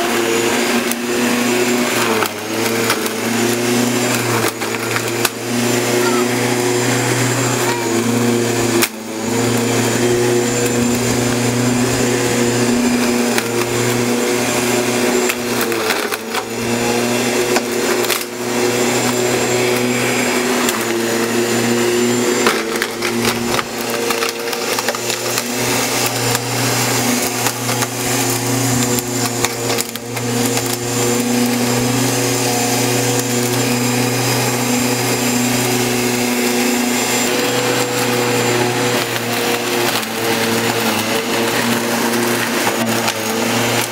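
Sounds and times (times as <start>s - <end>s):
electric lawnmower whining hum: 0.0s - 43.9s.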